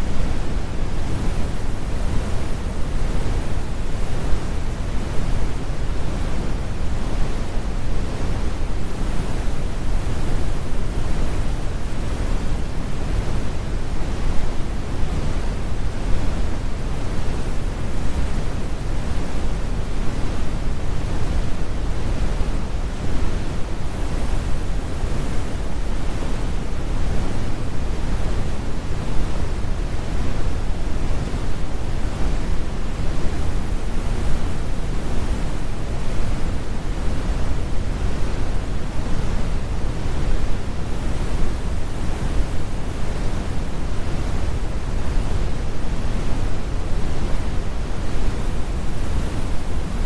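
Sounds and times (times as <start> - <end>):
brown noise rumble: 0.0 - 50.0.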